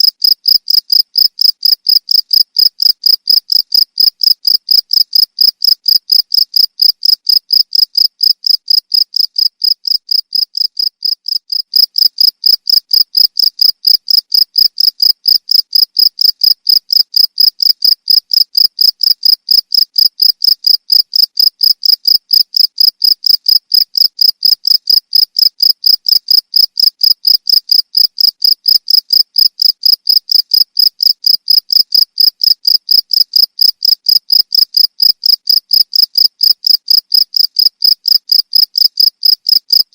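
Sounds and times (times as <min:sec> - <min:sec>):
cricket chirping: 0:00.1 - 0:39.8.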